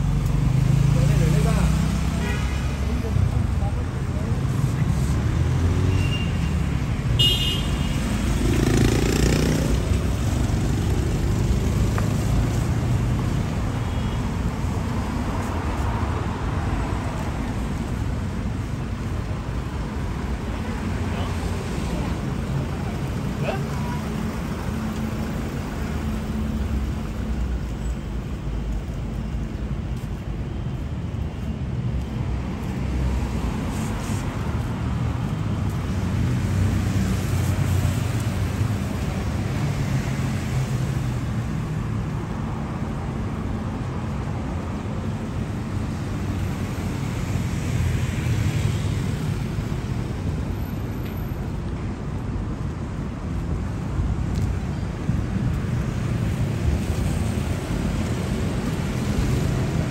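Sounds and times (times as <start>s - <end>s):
heavy road traffic: 0.0s - 59.9s.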